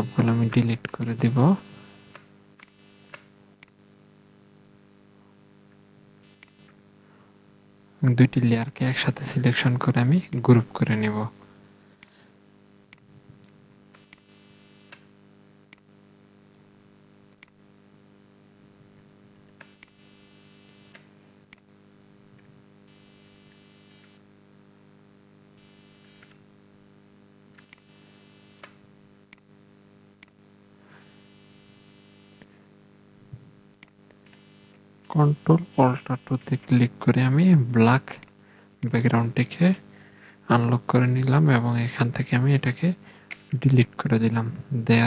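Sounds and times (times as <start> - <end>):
buzzing interference: 0.0 - 45.0
electrical hum: 0.0 - 45.0.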